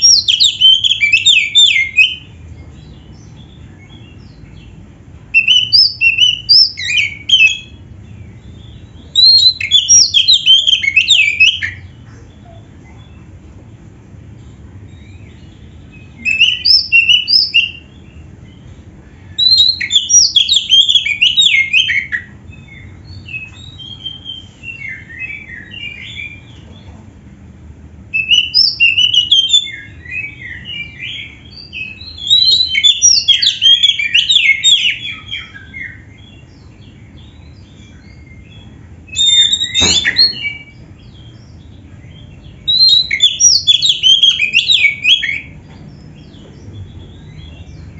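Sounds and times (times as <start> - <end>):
songbird singing rapid phrases: 0.0 - 26.9, 27.9 - 47.9.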